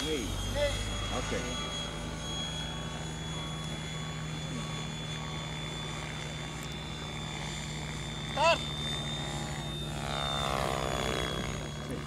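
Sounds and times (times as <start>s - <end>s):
model helicopter drone and whine: 0.0s - 12.0s.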